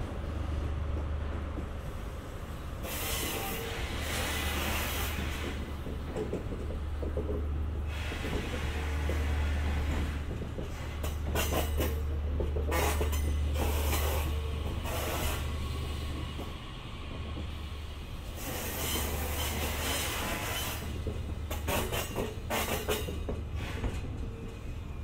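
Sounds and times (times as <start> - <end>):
train cars rolling: 0.0 - 25.0.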